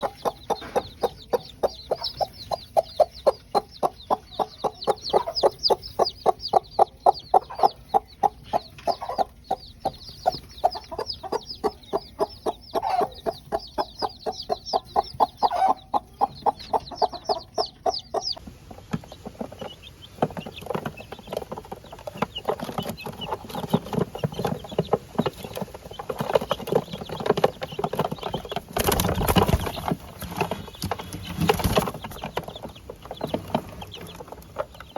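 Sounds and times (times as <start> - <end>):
chick peeps: 0.0 - 34.9
chickens clucking: 0.0 - 34.9.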